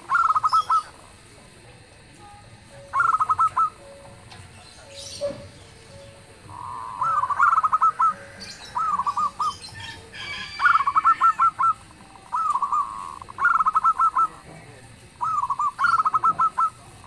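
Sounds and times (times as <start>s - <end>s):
dove cooing song: 0.0s - 1.6s, 2.5s - 17.0s
faint high chirps: 0.0s - 14.5s, 15.2s - 17.0s.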